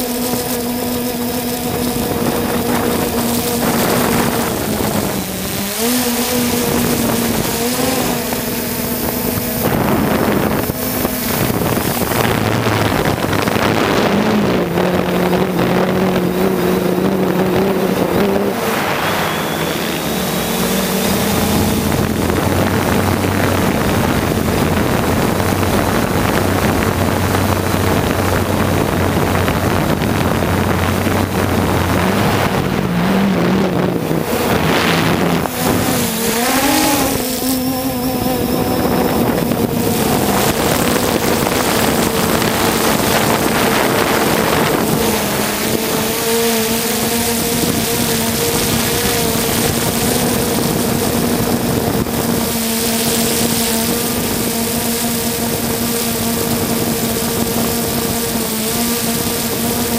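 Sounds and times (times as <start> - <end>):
quadcopter motors and propellers: 0.0 - 59.9.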